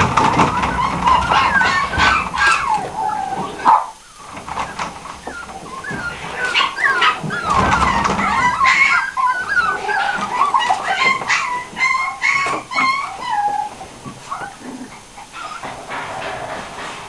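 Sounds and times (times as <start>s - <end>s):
puppies whining and yipping: 0.0s - 16.8s.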